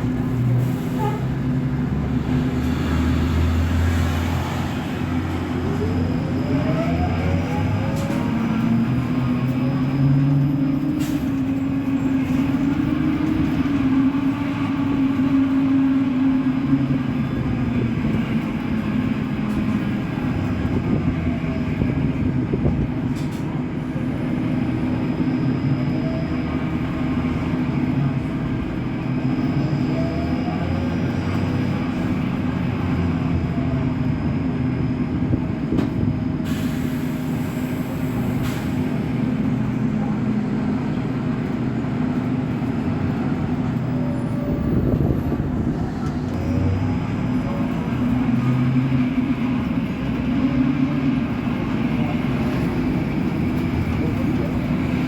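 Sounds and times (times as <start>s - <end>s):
bus rumbling: 0.0s - 55.0s.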